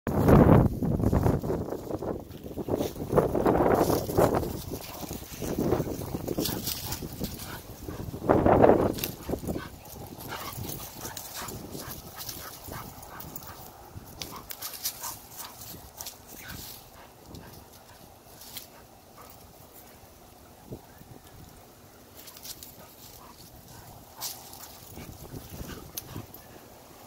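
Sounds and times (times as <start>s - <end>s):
crackling in dry leaves: 0.1s - 27.0s
dogs playing: 2.2s - 21.3s, 22.0s - 27.0s.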